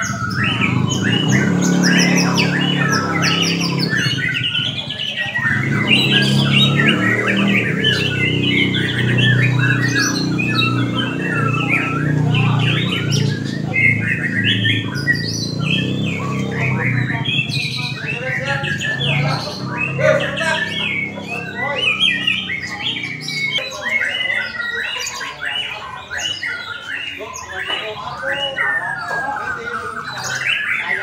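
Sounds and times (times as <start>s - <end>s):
songbird whistling song: 0.0s - 31.0s.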